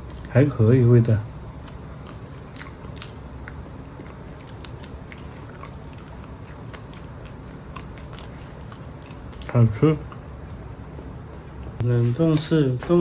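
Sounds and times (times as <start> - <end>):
person chewing banana: 1.4 - 11.8.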